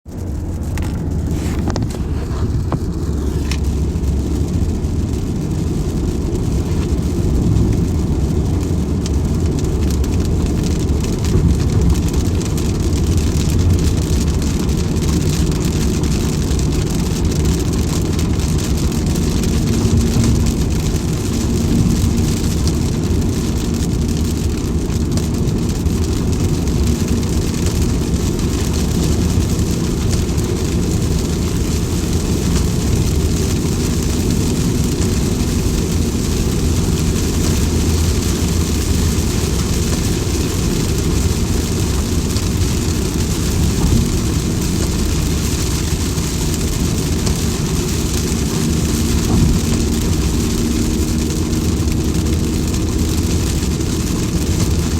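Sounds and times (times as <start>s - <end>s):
low rumble: 0.1s - 54.9s
steady rain hiss: 0.1s - 54.9s.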